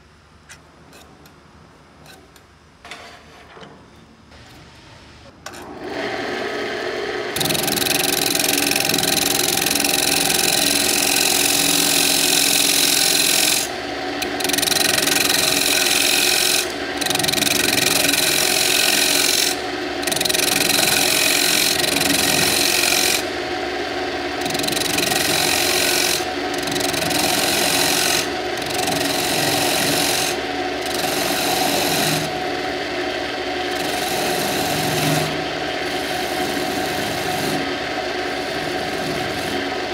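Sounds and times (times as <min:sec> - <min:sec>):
lathe motor humming: 0:05.6 - 0:39.9
chisel scraping spinning wood: 0:07.3 - 0:39.9.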